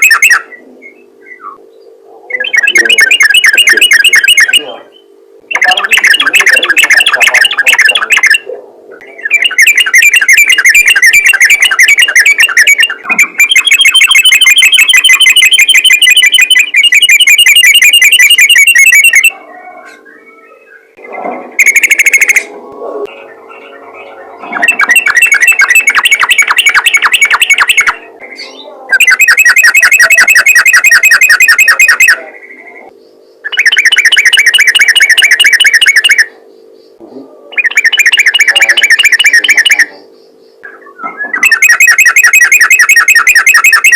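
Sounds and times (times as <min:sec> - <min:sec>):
bird singing rapid repeated notes: 0:00.0 - 0:19.4, 0:20.1 - 0:43.9
steady low hum: 0:00.0 - 0:43.9.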